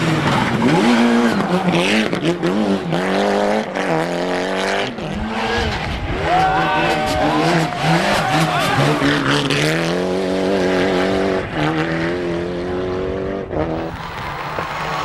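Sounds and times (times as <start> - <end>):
rally car engine passing: 0.0 - 15.0.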